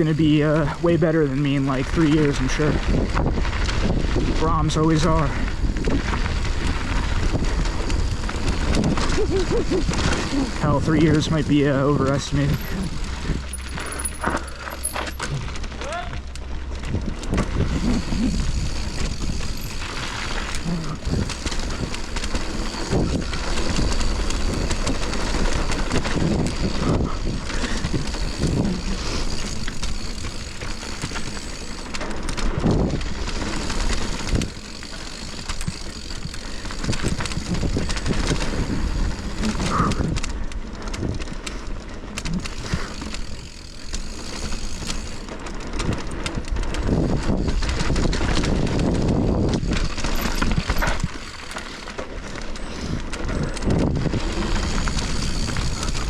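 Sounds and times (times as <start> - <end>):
wind buffeting microphone: 0.0 - 41.6, 42.2 - 56.0
bike chain and frame rattling: 0.0 - 56.0
bike tyres on dirt: 0.0 - 56.0.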